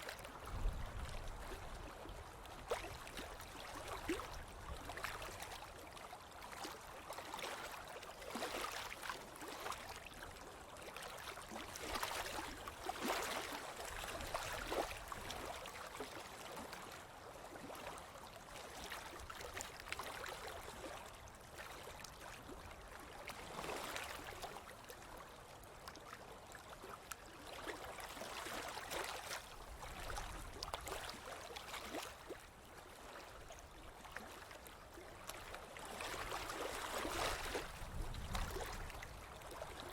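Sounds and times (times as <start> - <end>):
splashes and crackles in water: 0.0 - 39.9.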